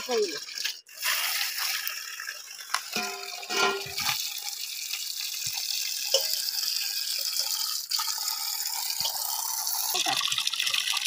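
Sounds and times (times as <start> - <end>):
water pouring and splashing into pot: 0.0 - 11.0.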